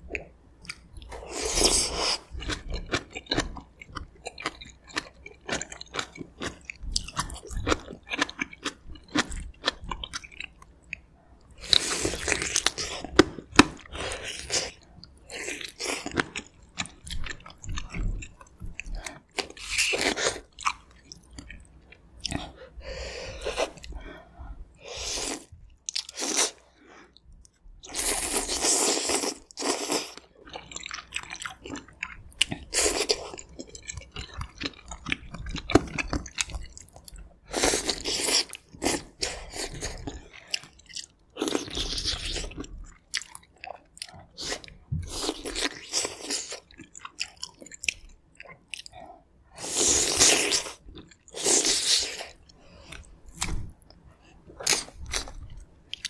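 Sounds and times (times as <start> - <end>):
biting and chewing food: 0.0 - 22.7, 25.2 - 56.0.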